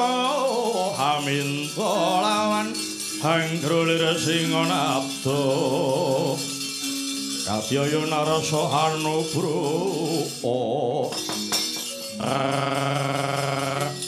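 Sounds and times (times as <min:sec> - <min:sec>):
person singing ornamented melody: 0:00.0 - 0:06.7, 0:07.4 - 0:11.4, 0:12.0 - 0:14.0
gamelan sustained tones: 0:00.0 - 0:14.0.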